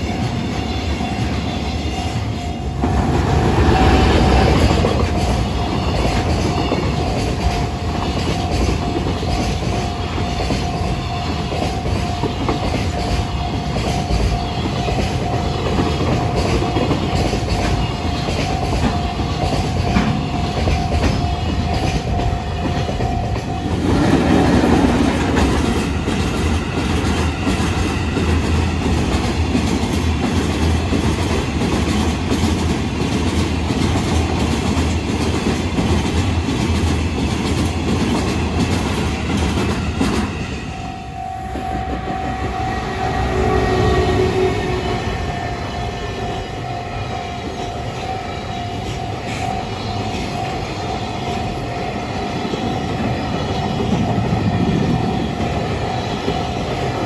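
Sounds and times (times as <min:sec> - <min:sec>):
crossing warning bell: 0:00.0 - 0:57.0
freight train rumbling: 0:00.0 - 0:57.0.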